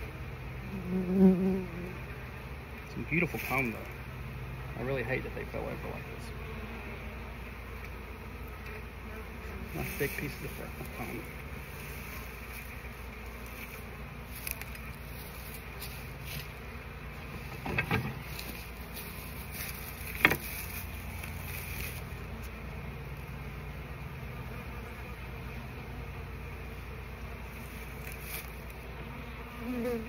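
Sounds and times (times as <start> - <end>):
honey bees buzzing: 0.0 - 30.0.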